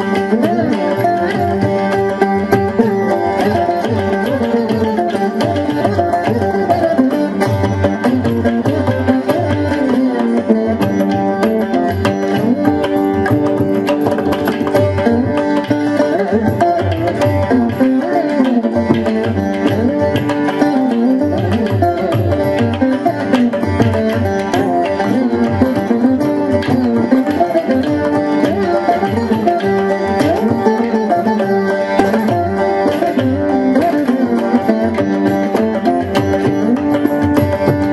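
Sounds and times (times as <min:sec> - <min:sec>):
hand drum rhythm: 0:00.0 - 0:37.9
veena melody: 0:00.0 - 0:37.9.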